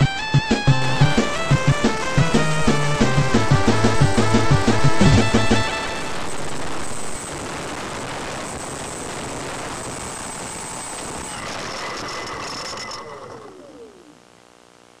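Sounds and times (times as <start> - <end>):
rushing noise: 0.0 - 14.0.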